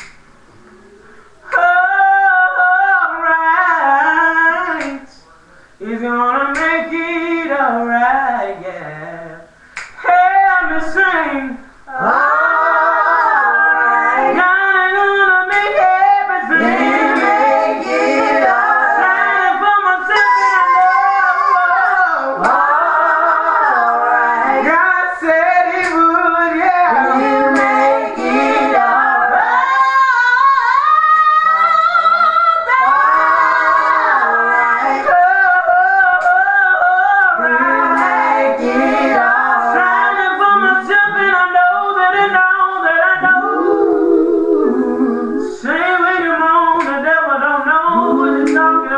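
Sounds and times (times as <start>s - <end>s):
woman singing gospel: 1.4s - 5.1s, 5.8s - 48.9s.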